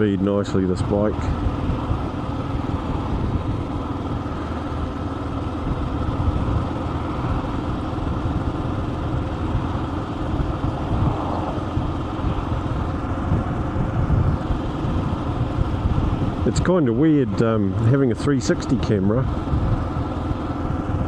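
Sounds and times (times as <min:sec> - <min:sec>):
motorcycle engine and road noise: 0:00.0 - 0:21.0.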